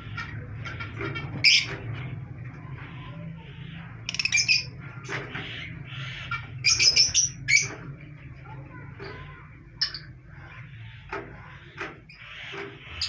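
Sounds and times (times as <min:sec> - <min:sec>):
parrots squawking: 0:00.0 - 0:07.8, 0:09.2 - 0:13.0.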